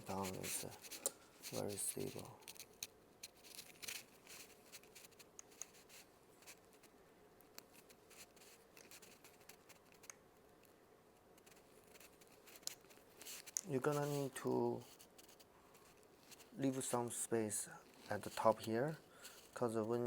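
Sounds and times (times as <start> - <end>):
light clicks and scrapes: 0.0 - 10.2, 11.2 - 20.0.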